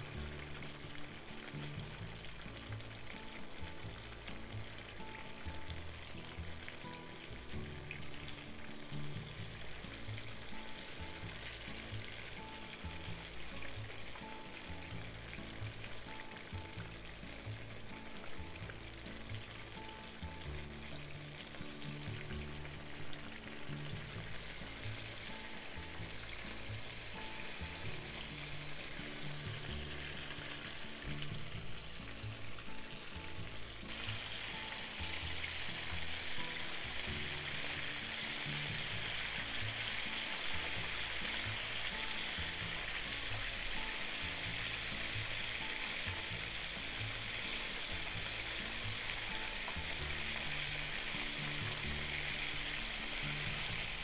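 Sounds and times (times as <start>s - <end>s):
background music: 0.0s - 54.0s
tofu deep-frying in oil: 0.0s - 54.0s.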